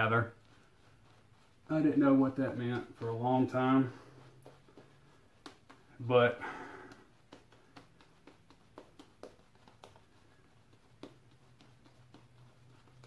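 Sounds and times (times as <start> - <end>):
shaving brush lathering skin: 0.0 - 13.0.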